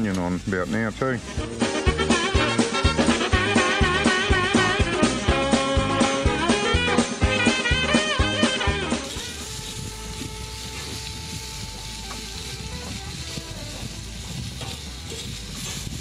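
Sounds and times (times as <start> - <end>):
meat and onion sizzling on hot plate: 0.0 - 16.0
music: 0.0 - 16.0.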